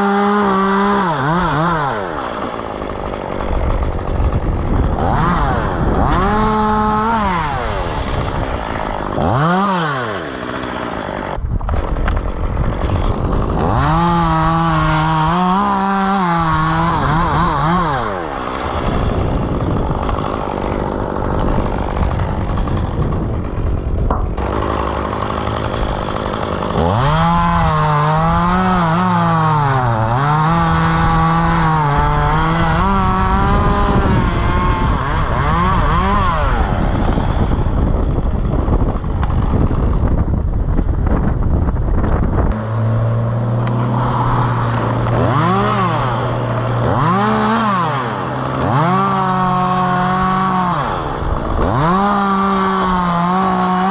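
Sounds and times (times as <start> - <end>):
chainsaw cutting and revving: 0.0 - 53.9.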